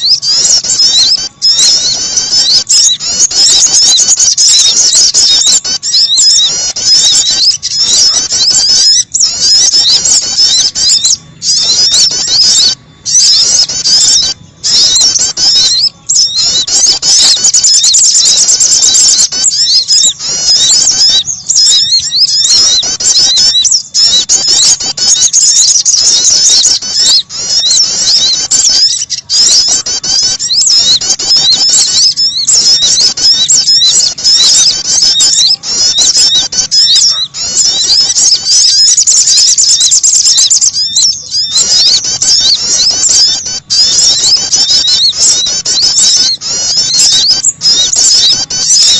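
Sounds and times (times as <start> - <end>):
songbirds twittering chirps: 0.0 - 48.9.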